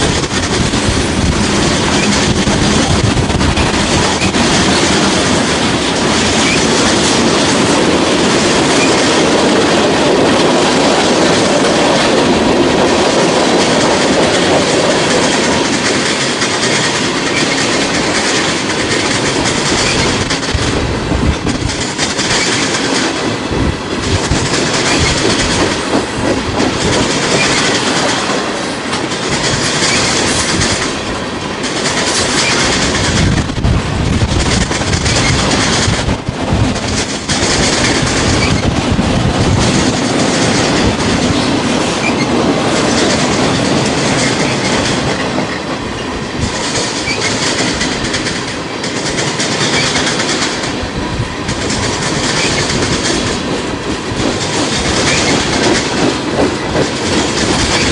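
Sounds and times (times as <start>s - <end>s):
freight train wheels rumbling on track: 0.0s - 57.9s.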